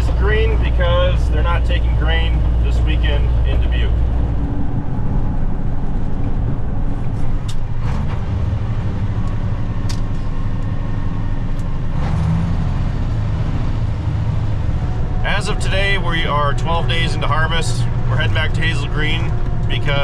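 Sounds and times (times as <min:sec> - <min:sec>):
road noise: 0:00.0 - 0:20.0
vehicle engine running: 0:00.0 - 0:20.0.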